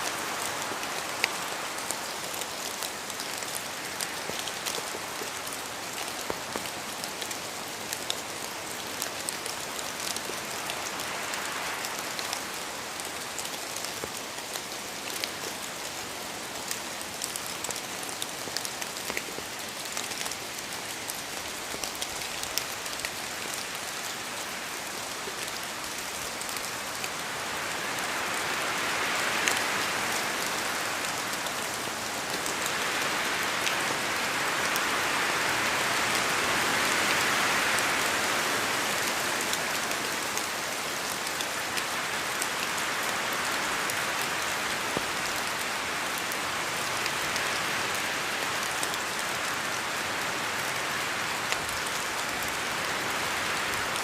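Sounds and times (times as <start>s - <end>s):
rain falling through trees: 0.0s - 54.0s.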